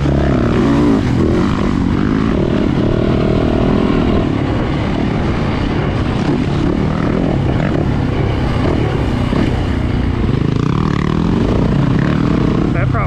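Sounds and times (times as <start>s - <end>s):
dirt bike engine revving: 0.0s - 4.9s, 5.5s - 13.0s.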